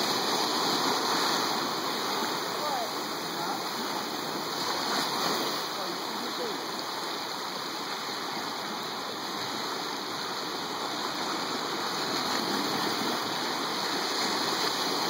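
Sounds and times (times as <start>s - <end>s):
ocean surf washing ashore: 0.0s - 15.0s.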